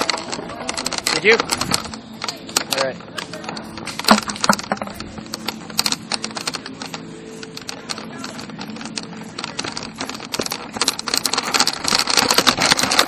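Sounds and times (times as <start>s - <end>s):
toy blaster clicking and rattling: 0.0s - 13.0s.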